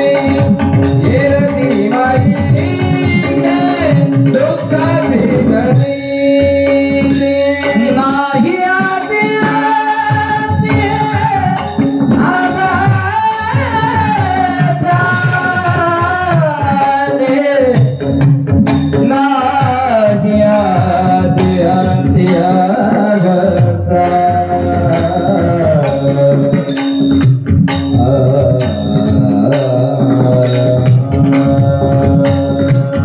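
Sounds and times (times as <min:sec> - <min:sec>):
person singing wordless melody: 0:00.0 - 0:27.1, 0:27.9 - 0:33.0
drums: 0:00.0 - 0:33.0.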